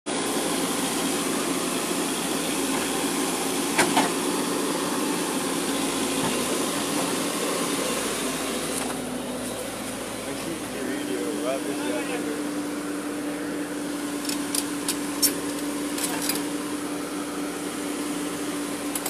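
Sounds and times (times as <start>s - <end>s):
diesel excavator engine running: 0.1s - 19.0s.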